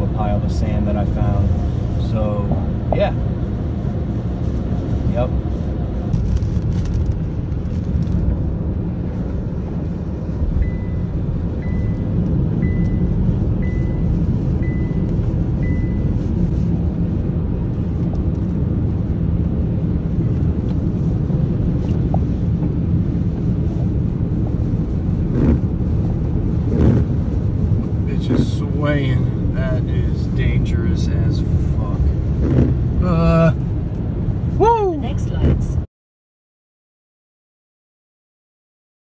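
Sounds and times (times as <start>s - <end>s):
road wind and rain noise in car: 0.0s - 35.9s.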